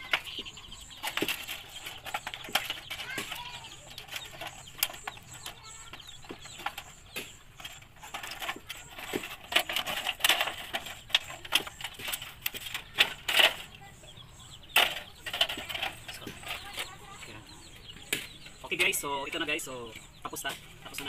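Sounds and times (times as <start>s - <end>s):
sheet metal rattling: 0.0s - 17.3s.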